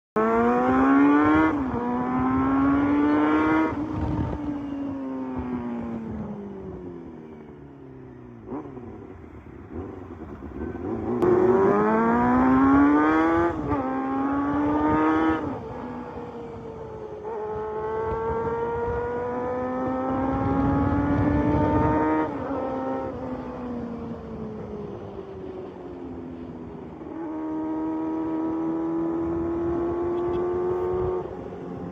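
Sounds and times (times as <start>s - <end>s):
motorcycle engine accelerating: 0.2s - 31.9s.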